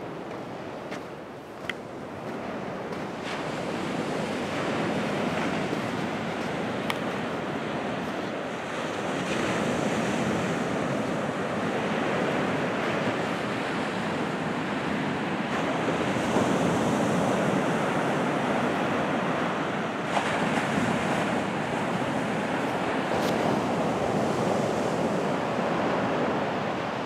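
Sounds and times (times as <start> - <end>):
waves breaking on sandy beach: 0.0 - 27.0.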